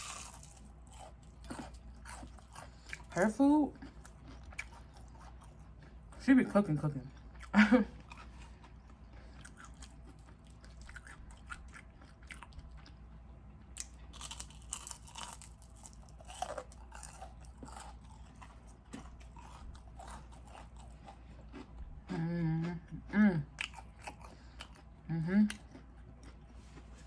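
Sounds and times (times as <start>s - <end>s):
person chewing crunchy food: 0.0s - 6.2s, 7.1s - 27.0s.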